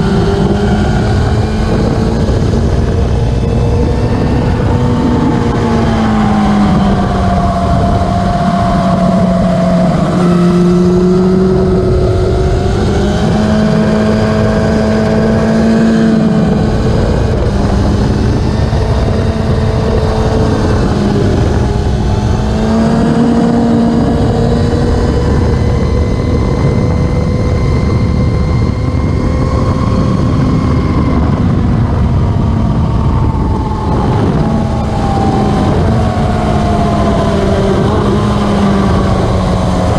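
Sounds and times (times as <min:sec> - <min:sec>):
racing motorcycle engines revving: 0:00.0 - 0:39.9.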